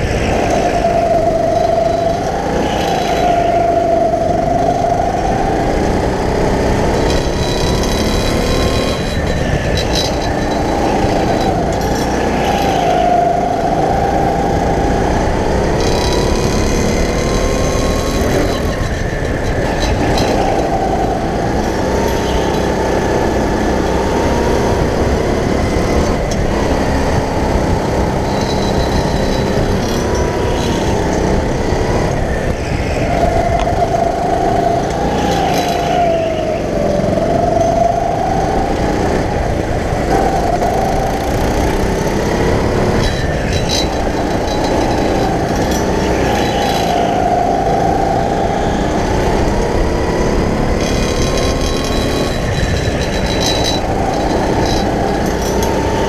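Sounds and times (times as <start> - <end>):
go-kart motor running: 0.0 - 56.0.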